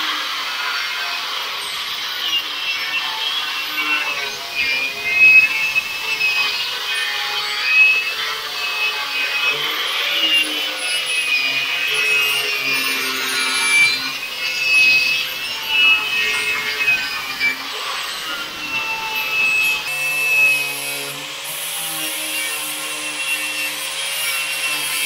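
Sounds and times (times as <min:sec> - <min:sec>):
angle grinder grinding metal: 0:00.0 - 0:25.0.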